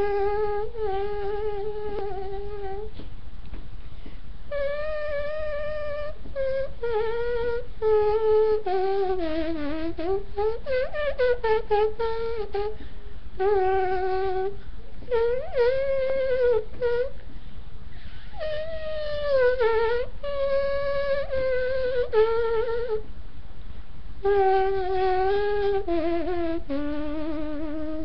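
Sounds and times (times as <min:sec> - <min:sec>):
person imitating trumpet with mouth: 0:00.0 - 0:03.0, 0:04.5 - 0:12.8, 0:13.4 - 0:17.2, 0:18.3 - 0:23.1, 0:24.2 - 0:28.0.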